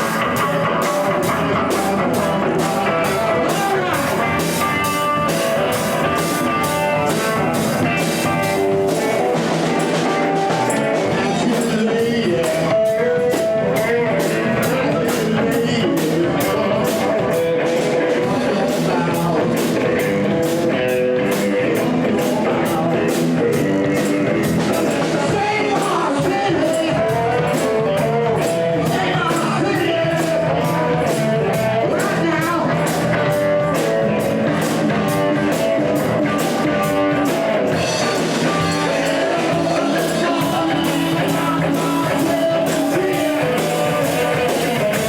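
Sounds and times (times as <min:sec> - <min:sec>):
drum kit steady beat: 0:00.0 - 0:45.0
electric guitar: 0:00.0 - 0:45.0.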